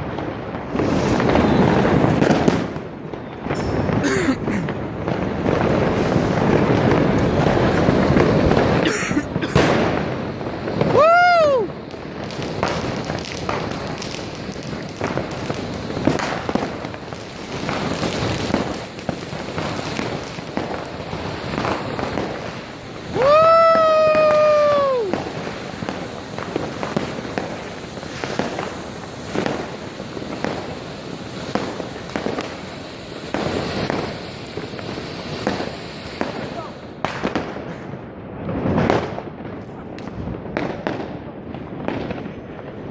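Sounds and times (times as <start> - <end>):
firecrackers crackling: 0.0 - 42.9
fireworks bangs: 0.0 - 42.9.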